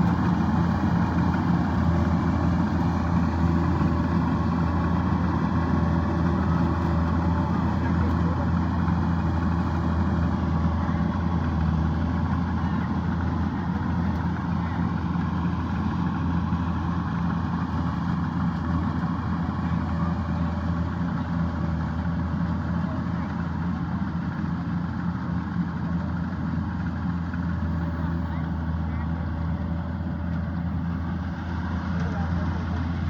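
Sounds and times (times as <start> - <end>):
diesel engine running steadily: 0.0 - 33.0.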